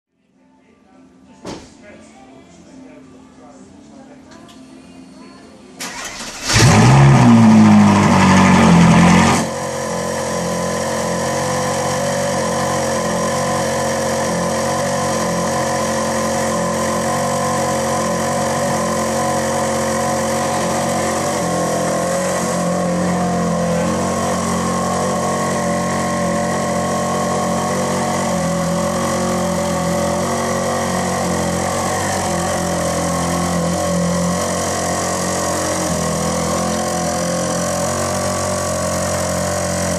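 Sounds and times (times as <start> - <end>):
car engine flaring then idling: 5.8 - 39.9.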